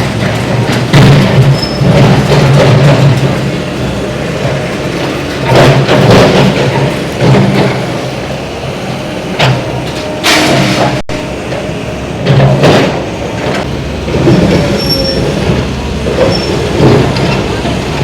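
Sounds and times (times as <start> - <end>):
demolition machine engine working: 0.0 - 18.0.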